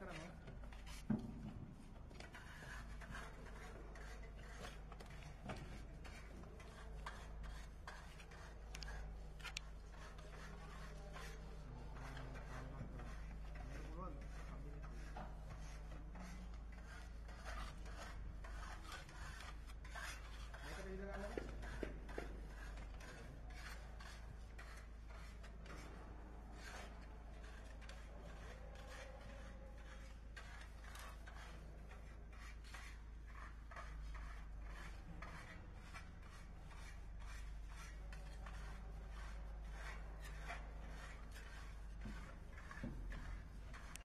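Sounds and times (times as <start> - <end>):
steel trowel scraping mortar: 2.1 - 44.0.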